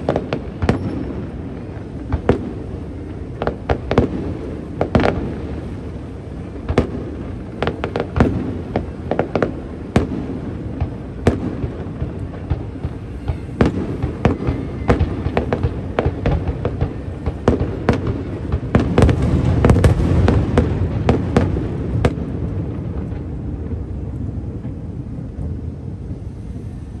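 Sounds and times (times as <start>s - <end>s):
fireworks cracking and banging: 0.0s - 27.0s.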